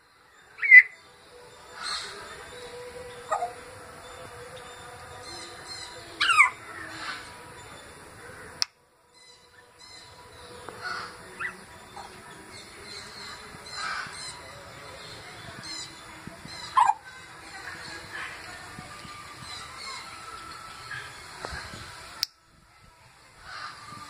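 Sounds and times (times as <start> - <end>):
faint high chirping: 0.0 - 22.6.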